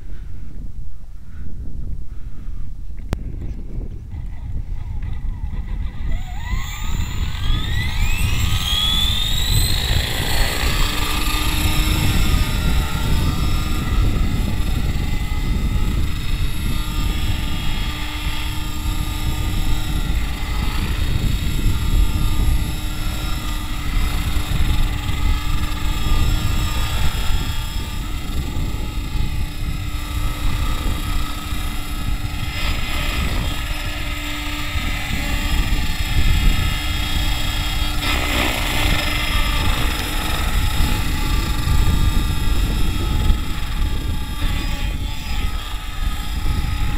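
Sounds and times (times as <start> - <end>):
model helicopter rotor whine: 3.0 - 46.9.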